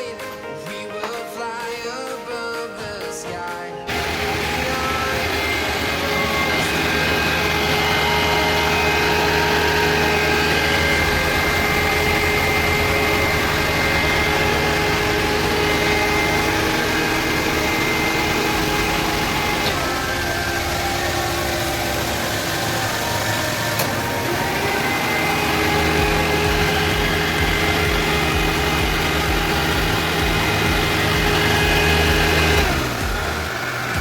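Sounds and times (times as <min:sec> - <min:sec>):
car engine idling: 0:03.9 - 0:34.0.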